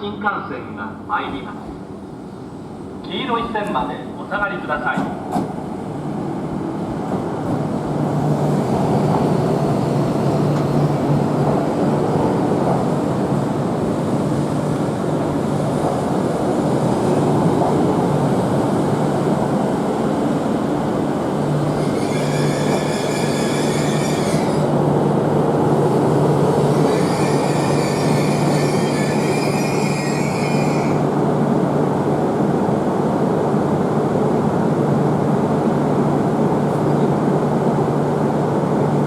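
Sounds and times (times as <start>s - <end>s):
train running noise: 1.2s - 33.8s.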